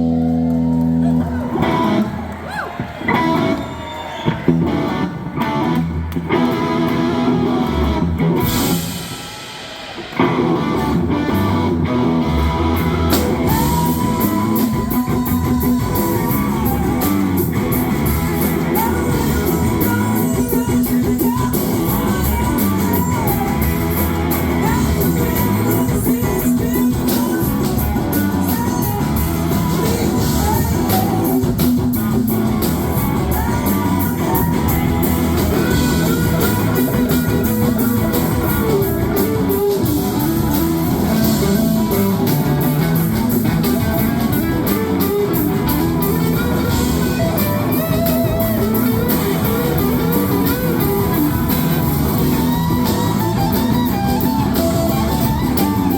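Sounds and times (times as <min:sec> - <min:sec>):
bass guitar: 0:00.0 - 0:09.2, 0:10.0 - 0:55.9
drums: 0:00.0 - 0:55.9
lead electric guitar: 0:00.0 - 0:55.9.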